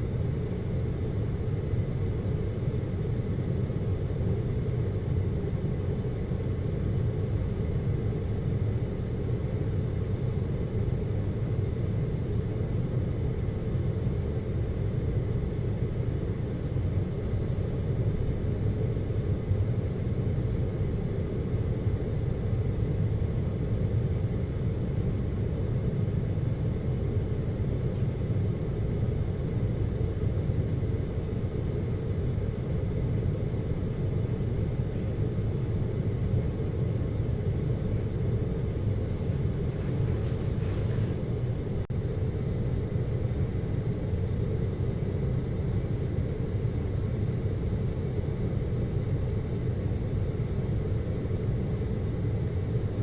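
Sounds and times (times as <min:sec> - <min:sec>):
faint high whine: 0:00.0 - 0:53.0.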